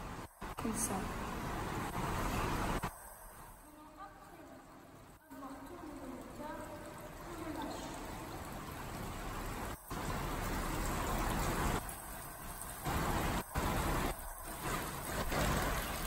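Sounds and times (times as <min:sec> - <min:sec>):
pool water rushing: 0:00.0 - 0:16.0.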